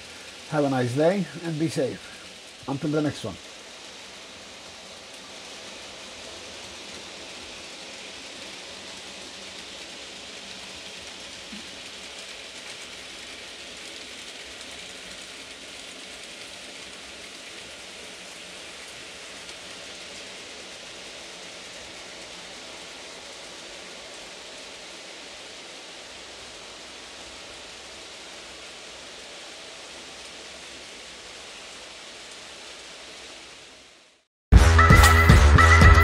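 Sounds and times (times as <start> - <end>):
model train wheels rolling: 0.0 - 34.2.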